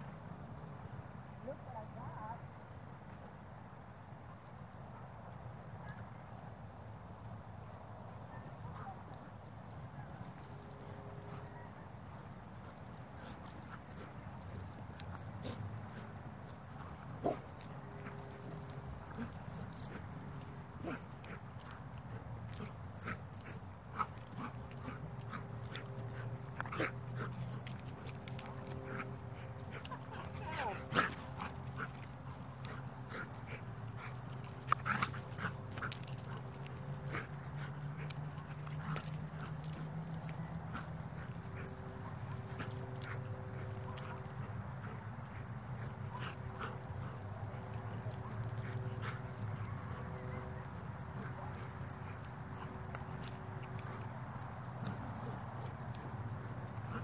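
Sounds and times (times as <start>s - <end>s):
dog paws clicking and scuffing: 6.3s - 57.0s.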